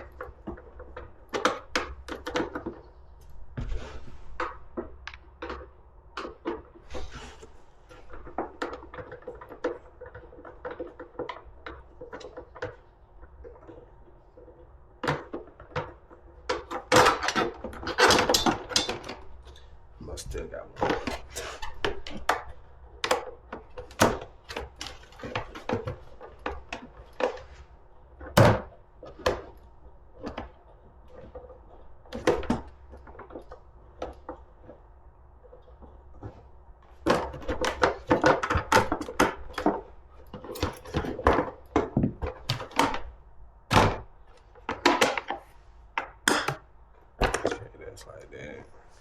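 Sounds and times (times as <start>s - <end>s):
clatter of tools and metal parts: 0.0s - 48.5s.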